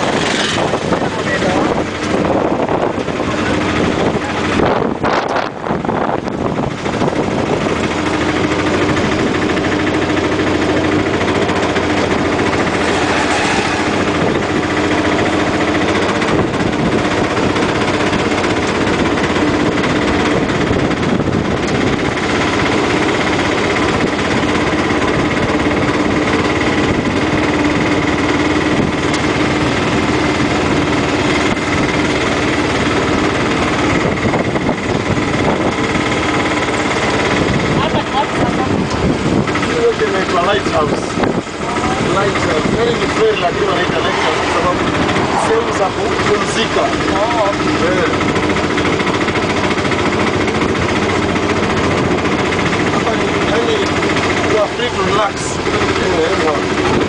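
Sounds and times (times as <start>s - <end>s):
rickshaw engine droning: 0.0s - 57.0s.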